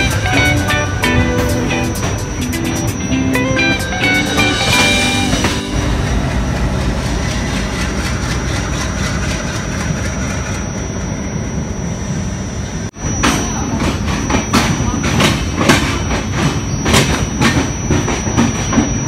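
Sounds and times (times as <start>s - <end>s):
locomotive rumbling: 0.0s - 19.0s
thin high whine: 0.0s - 19.0s.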